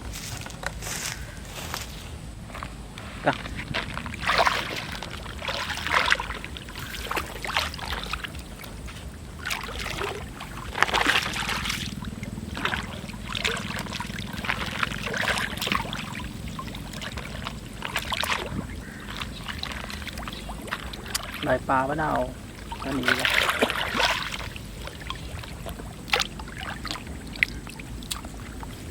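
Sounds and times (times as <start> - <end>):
water splashing and pouring: 3.2 - 28.9.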